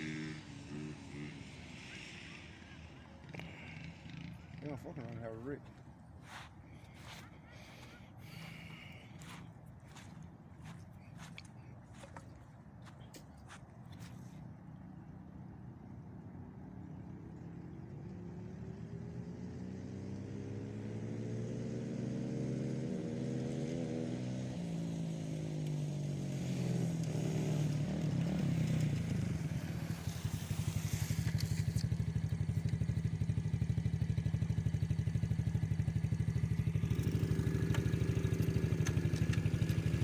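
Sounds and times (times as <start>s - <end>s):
small engine approaching and idling: 0.0s - 40.0s.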